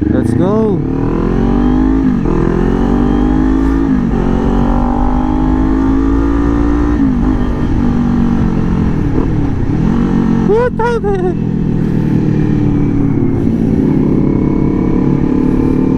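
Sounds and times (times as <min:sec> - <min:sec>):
motorcycle engine accelerating: 0:00.0 - 0:15.9
wind rumbling on microphone: 0:01.0 - 0:10.7, 0:11.3 - 0:15.9.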